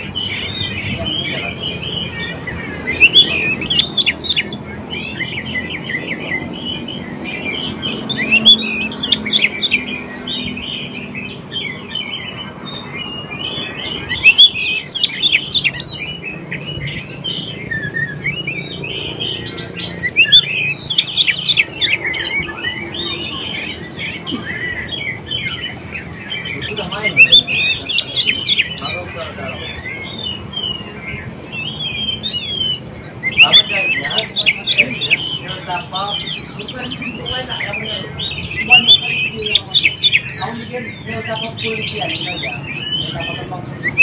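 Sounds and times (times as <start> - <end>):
bird chattering: 0.0 - 44.0
bird singing: 0.0 - 44.0.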